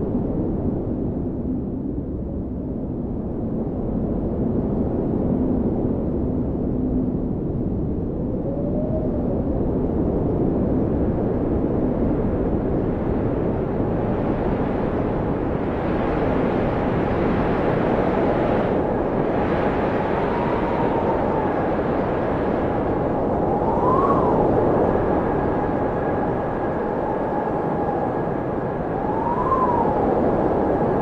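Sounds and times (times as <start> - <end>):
blizzard wind blowing hard: 0.0 - 31.0.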